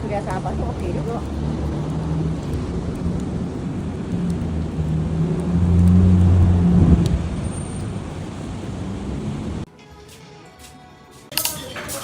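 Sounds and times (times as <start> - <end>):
vehicle engine humming: 0.0 - 9.7.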